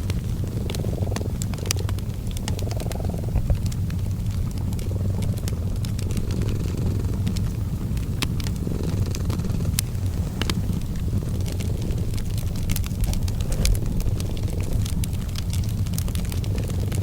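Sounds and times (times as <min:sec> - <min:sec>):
cat purring: 0:00.0 - 0:17.0
fireplace crackling: 0:00.0 - 0:17.0.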